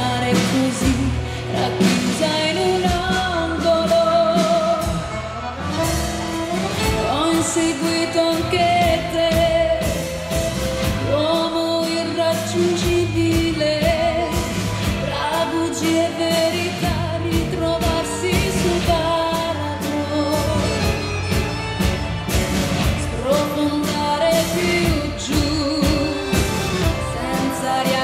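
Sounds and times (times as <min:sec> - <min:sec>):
woman singing into microphone: 0:00.0 - 0:05.6, 0:06.8 - 0:21.7, 0:22.8 - 0:28.0
band with steady beat: 0:00.0 - 0:28.0.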